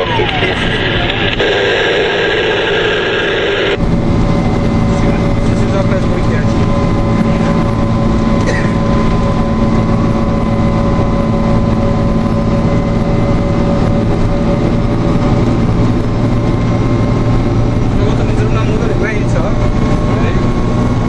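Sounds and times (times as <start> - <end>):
diesel engine and road noise: 0.0 - 21.0
faint steady whine: 0.0 - 21.0.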